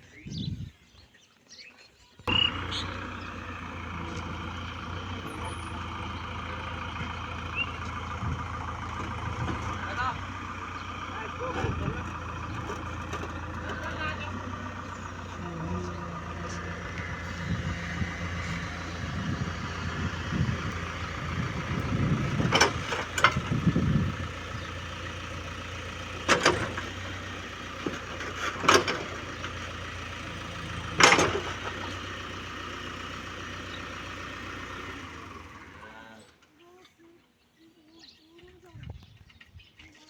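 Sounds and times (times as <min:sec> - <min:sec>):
diesel engine running: 0:02.2 - 0:36.5.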